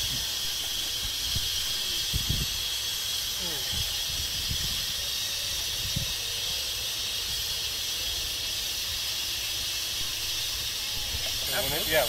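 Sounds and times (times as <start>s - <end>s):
compressed gas hissing: 0.0s - 12.0s.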